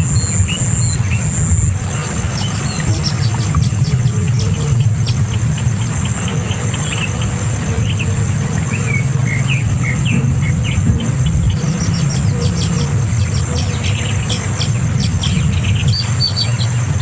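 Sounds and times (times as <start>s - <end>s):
high bird chirps: 0.0s - 17.0s.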